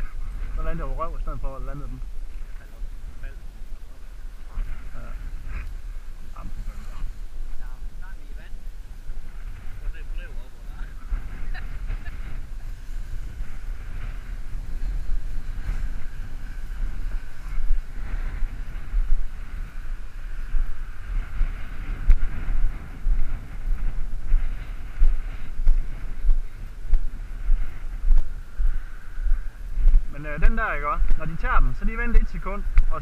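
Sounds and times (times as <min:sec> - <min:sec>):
grass rustling: 0:00.0 - 0:33.0
wind rumbling on microphone: 0:00.0 - 0:33.0.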